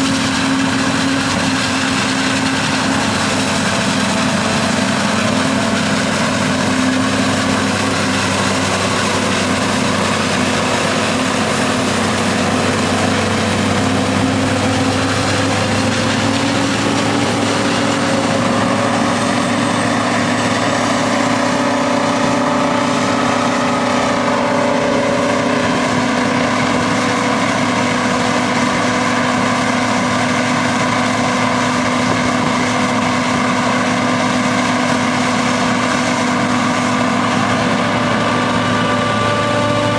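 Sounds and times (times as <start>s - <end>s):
diesel engines running under load: 0.0s - 39.9s.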